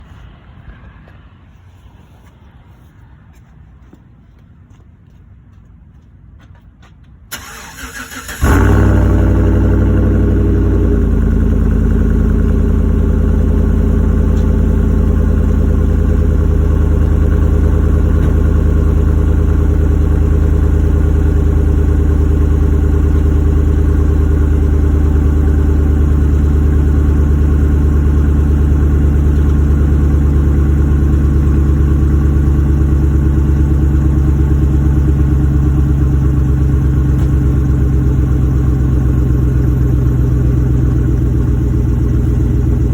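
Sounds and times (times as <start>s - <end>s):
car engine starting and idling: 7.3s - 42.9s.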